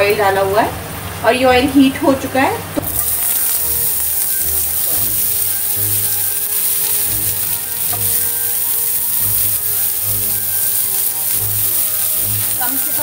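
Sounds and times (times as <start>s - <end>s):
peppers sizzling in hot oil: 1.2s - 13.0s.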